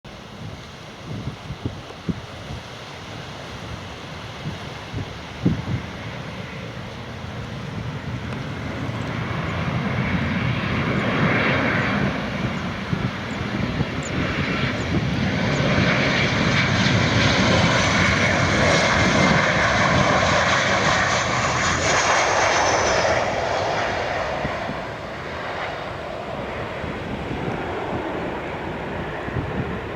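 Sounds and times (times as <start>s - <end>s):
jet airliner engines roaring: 0.1s - 29.9s.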